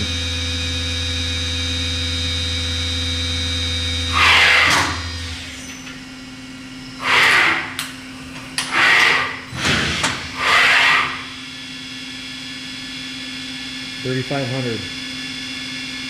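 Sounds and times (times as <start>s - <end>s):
machine spindle hum and whine: 0.0s - 16.0s.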